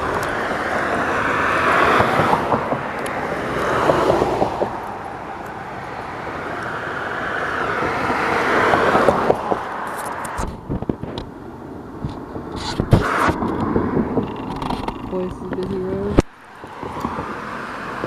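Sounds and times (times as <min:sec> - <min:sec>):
cars passing on a road: 0:00.0 - 0:18.0.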